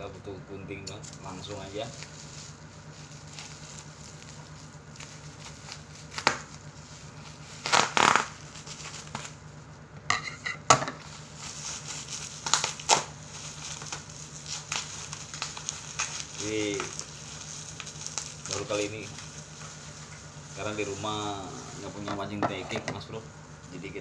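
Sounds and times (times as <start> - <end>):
low steady hum: 0.0 - 24.0
bubble wrap crinkling: 1.0 - 9.8, 11.0 - 22.4.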